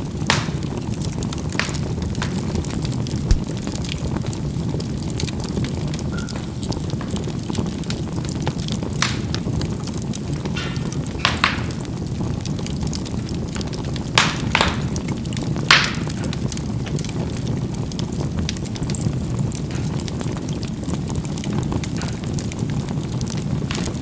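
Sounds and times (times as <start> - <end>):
low rush of flame: 0.0 - 14.1, 15.0 - 24.0
charcoal crackling and popping: 0.0 - 24.0.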